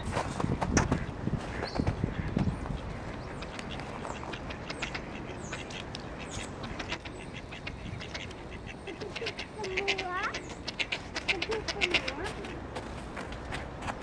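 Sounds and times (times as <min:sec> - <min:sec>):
ducks giving sharp calls: 0:00.8 - 0:12.9.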